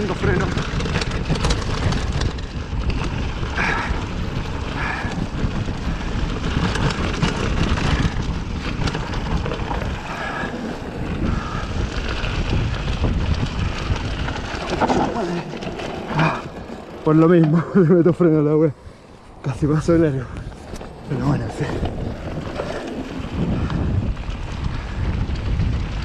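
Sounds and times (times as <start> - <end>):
bike rattling over bumps: 0.0 - 26.0
tyres rumbling over dirt: 0.0 - 26.0
wind buffeting microphone: 0.0 - 26.0.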